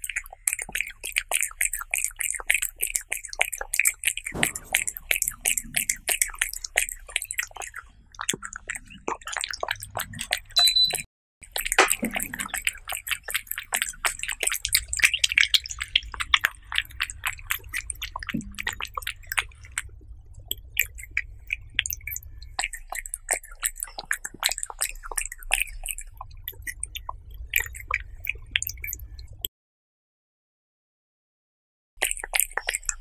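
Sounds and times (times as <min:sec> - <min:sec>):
cat eating wet food: 0:00.0 - 0:10.6, 0:11.4 - 0:29.4, 0:32.0 - 0:33.0.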